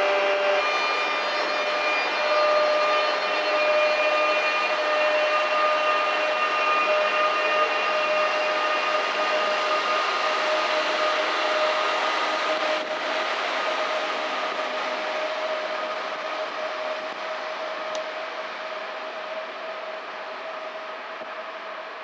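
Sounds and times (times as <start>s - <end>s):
electric train drive whine: 0.0s - 22.0s
train rolling and air noise: 0.0s - 22.0s.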